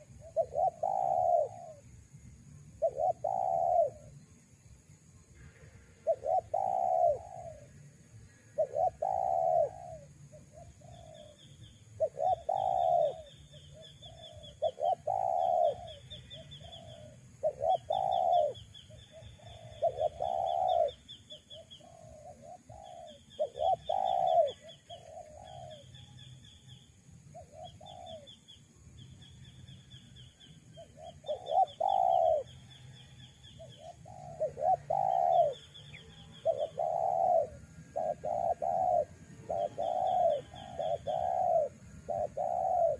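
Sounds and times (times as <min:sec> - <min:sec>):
doves cooing: 0:00.0 - 0:01.8, 0:02.8 - 0:04.1, 0:06.0 - 0:07.8, 0:08.6 - 0:11.4, 0:12.0 - 0:26.0, 0:27.3 - 0:28.4, 0:30.8 - 0:42.9.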